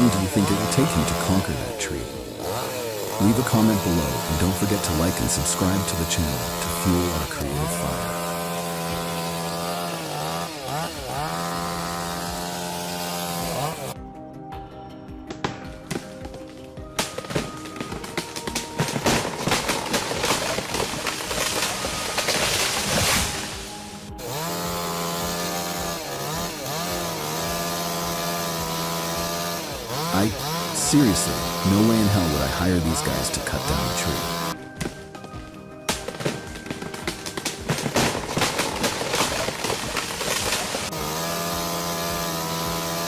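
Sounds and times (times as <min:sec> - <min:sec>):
chainsaw revving: 0:00.0 - 0:14.0, 0:17.1 - 0:34.6, 0:36.1 - 0:43.0.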